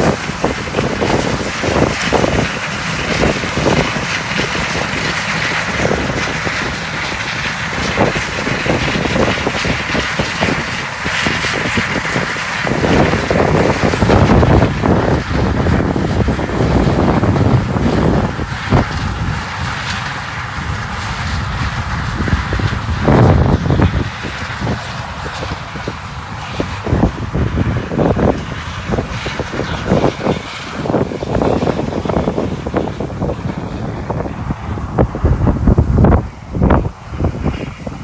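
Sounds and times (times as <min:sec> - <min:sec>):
harvest machinery rumbling: 0:00.0 - 0:38.0
wind buffeting microphone: 0:00.0 - 0:38.0.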